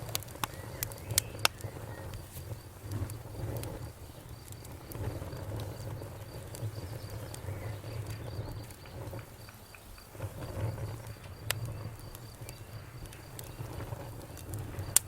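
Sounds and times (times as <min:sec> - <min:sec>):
campfire crackling and popping: 0:00.0 - 0:15.0
insect chirping: 0:00.0 - 0:15.0.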